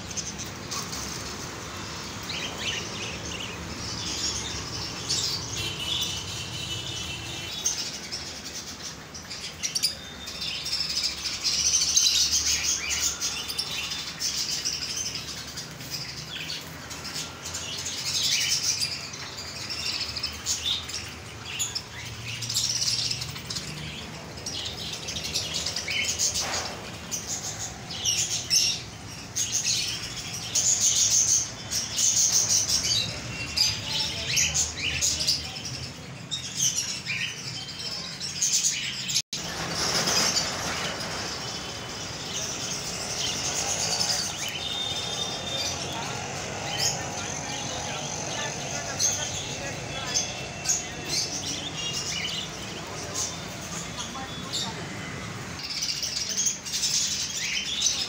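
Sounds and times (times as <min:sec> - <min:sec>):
birds chirping and twittering: 0:00.0 - 0:58.0.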